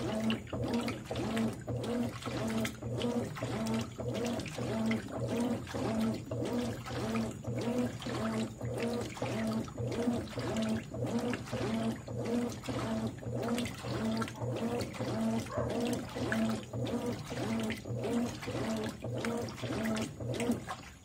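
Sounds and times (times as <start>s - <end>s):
washing machine agitator swishing: 0.0s - 21.0s
washing machine motor hum: 0.0s - 21.0s
water sloshing: 0.0s - 21.0s.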